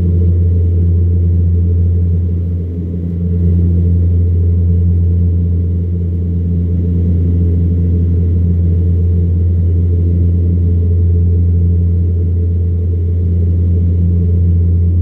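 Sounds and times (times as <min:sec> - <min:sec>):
propeller drone in cabin: 0:00.0 - 0:15.0.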